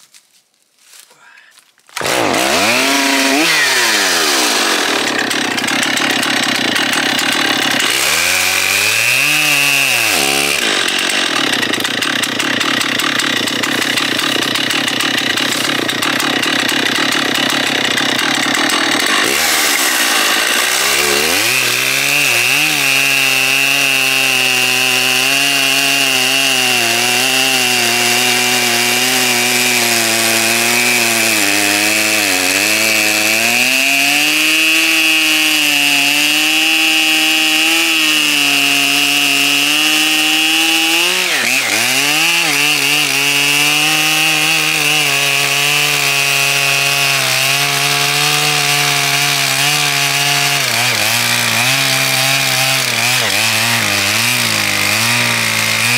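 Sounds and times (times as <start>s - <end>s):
chainsaw cutting a log: 2.0s - 55.9s.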